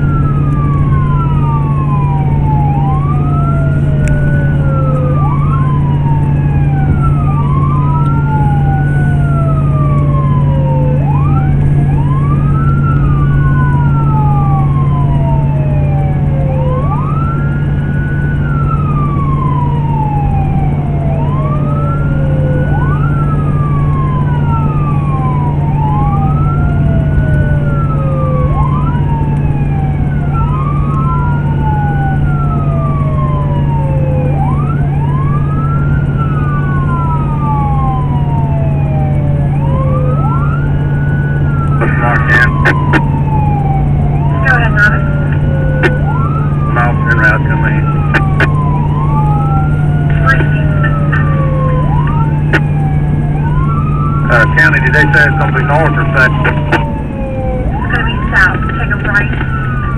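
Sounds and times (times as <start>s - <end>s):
siren wailing: 0.0s - 59.9s.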